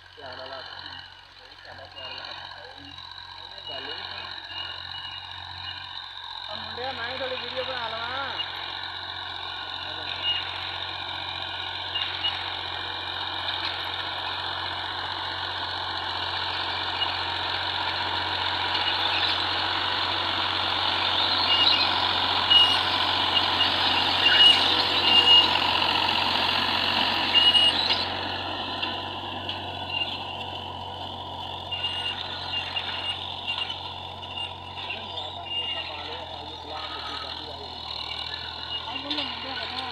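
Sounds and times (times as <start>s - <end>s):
tractor engine drone: 0.0s - 39.9s
high squeaks and clanks: 0.6s - 39.9s.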